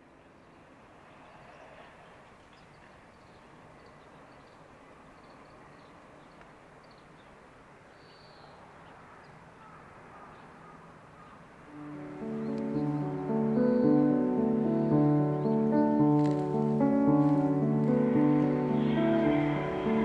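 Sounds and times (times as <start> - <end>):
low hum of town: 0.0 - 20.0
birds chirping: 0.1 - 20.0.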